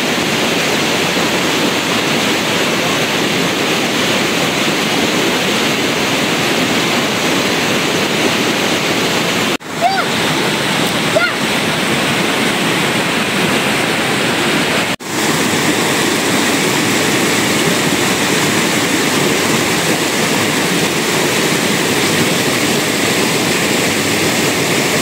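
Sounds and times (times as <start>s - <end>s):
fast-flowing water rushing: 0.0s - 25.0s.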